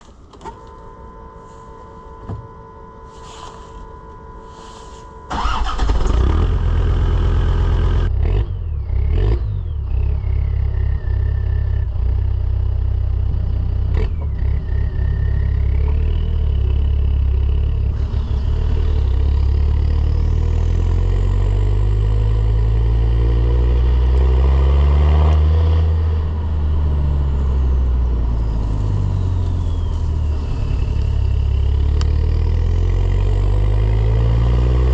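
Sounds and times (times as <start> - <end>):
diesel engine starting and idling: 4.5 - 23.8, 24.8 - 34.9
engine revving: 5.3 - 34.9.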